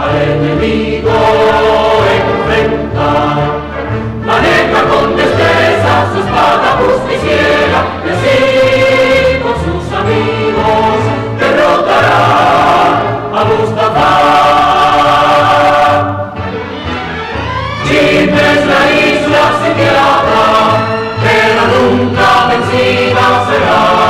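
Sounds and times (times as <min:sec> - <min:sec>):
choir singing: 0:00.0 - 0:24.0
orchestra playing: 0:00.0 - 0:24.0.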